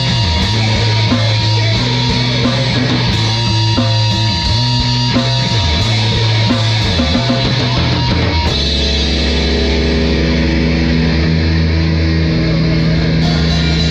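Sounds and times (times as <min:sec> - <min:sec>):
rock music with guitar and drums: 0:00.0 - 0:13.9.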